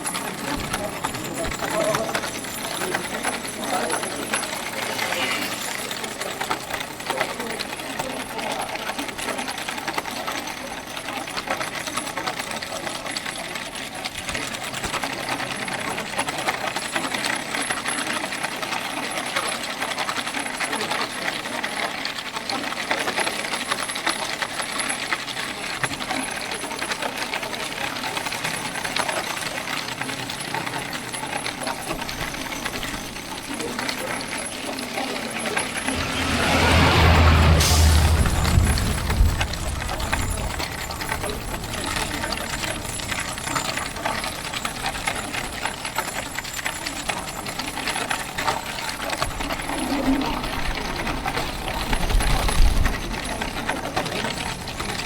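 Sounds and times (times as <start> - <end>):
cart wheels rattling over pavement: 0.0 - 35.7, 40.2 - 55.0.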